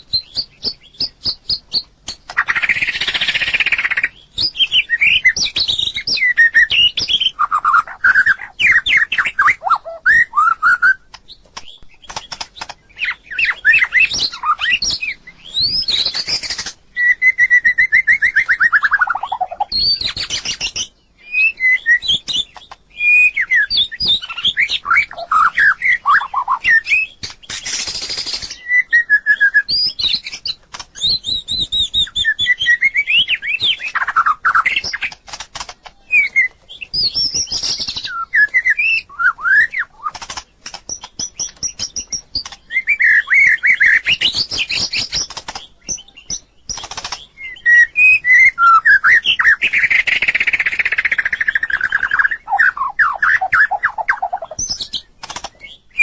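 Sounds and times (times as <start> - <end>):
bird singing whistled phrases: 0.0 - 11.8, 12.9 - 35.2, 36.0 - 40.2, 40.9 - 56.0.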